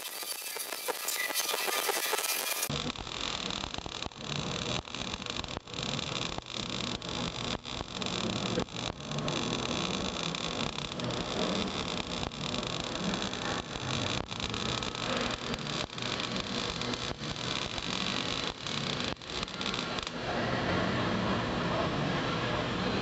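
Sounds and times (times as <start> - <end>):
welding arc crackling and hissing: 0.0 - 22.0.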